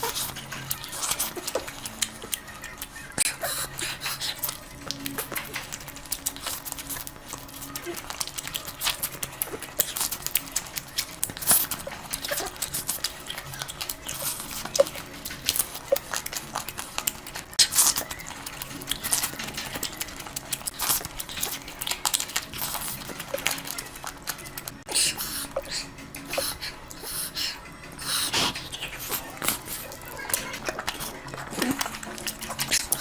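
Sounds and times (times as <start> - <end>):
wet chewing and lip-smacking: 0.0 - 33.0.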